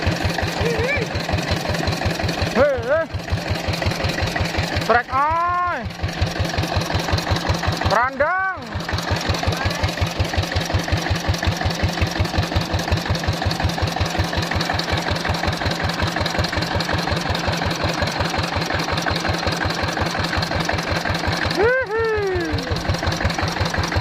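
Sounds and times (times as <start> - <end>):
boat diesel engine running: 0.0 - 24.0.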